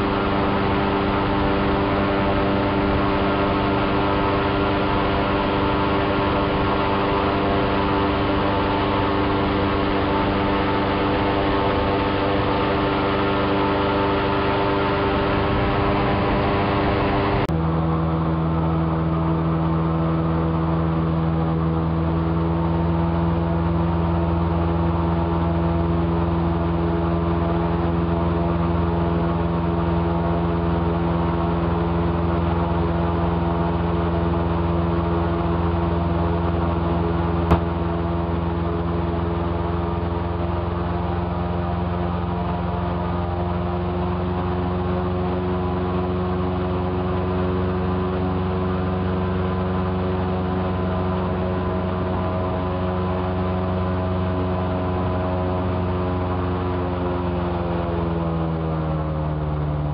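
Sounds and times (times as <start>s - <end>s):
airboat engine droning: 0.0s - 59.9s.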